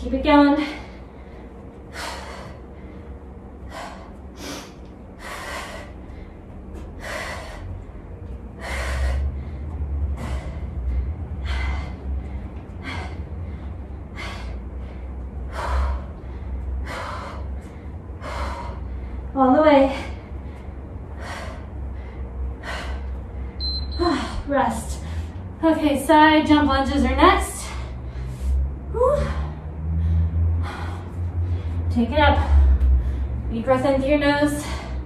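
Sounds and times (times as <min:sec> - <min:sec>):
low rumble: 0:00.0 - 0:35.0
woman breathing hard: 0:00.5 - 0:25.6, 0:27.4 - 0:33.5, 0:34.4 - 0:35.0.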